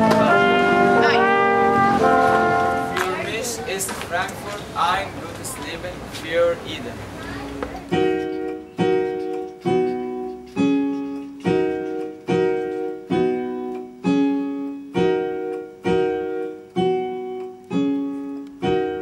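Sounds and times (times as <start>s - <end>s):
keyboard playing chords: 0.0s - 19.0s.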